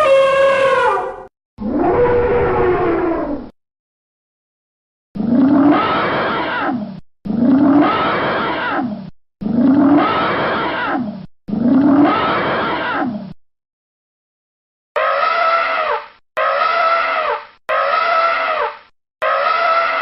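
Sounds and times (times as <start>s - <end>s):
animal roar: 0.0s - 3.5s, 5.2s - 13.4s, 15.0s - 20.0s.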